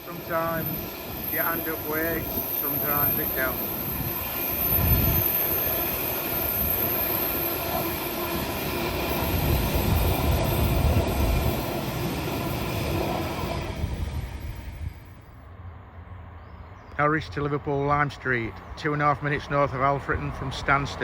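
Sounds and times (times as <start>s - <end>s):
train wheels rumbling on rail: 0.0s - 15.4s, 17.5s - 21.0s.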